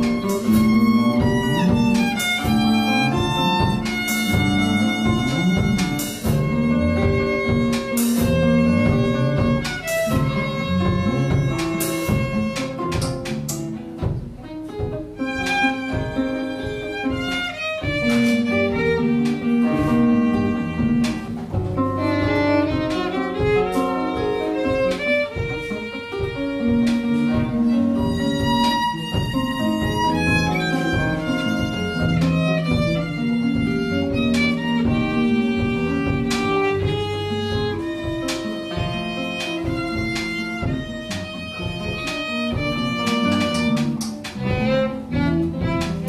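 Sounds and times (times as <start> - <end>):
drums with cymbals: 0.0 - 43.4
acoustic guitar: 0.0 - 46.0
piano: 0.0 - 46.0
walking bass line: 0.0 - 46.0.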